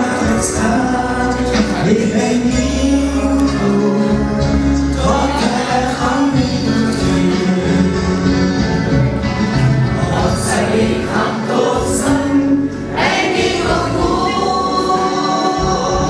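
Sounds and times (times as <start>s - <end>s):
group of voices singing: 0.0s - 9.0s, 9.6s - 16.0s.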